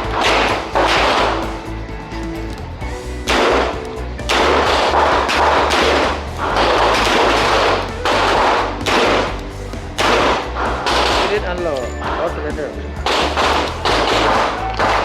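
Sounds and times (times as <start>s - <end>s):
music with heavy bass hits: 0.0s - 15.0s.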